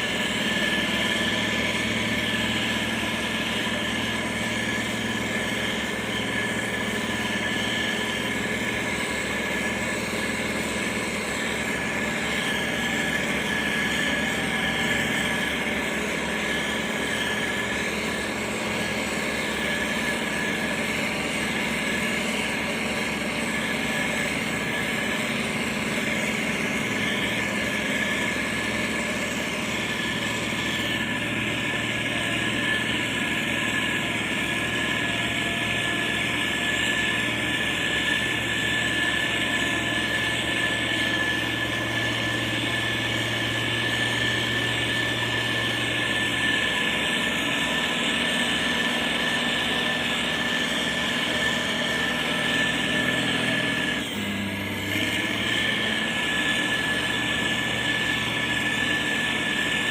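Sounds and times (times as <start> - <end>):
constant high whine: 0.0 - 59.9
heavy construction machinery running: 0.0 - 59.9.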